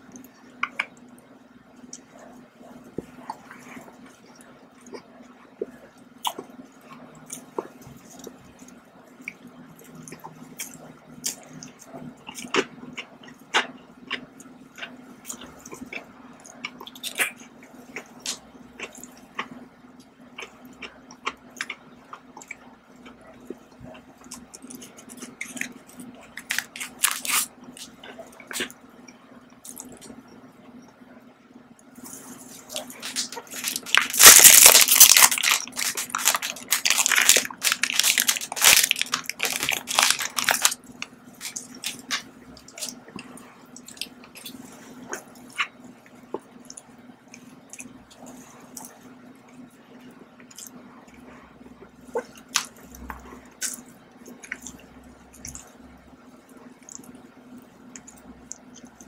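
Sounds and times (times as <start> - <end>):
chewing and wet mouth sounds: 0.0 - 31.0, 31.8 - 59.0
low steady hum: 0.0 - 59.0.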